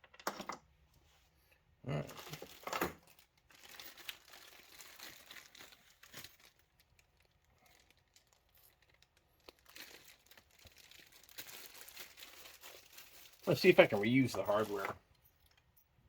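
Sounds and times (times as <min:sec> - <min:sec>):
soft crinkling: 0:02.2 - 0:16.0.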